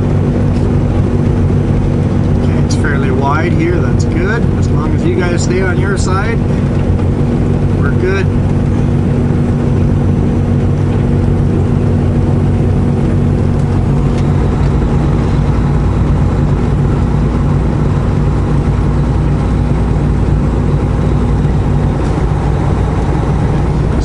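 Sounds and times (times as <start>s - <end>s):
diesel truck engine under load: 0.0s - 24.0s
road noise: 0.0s - 24.0s.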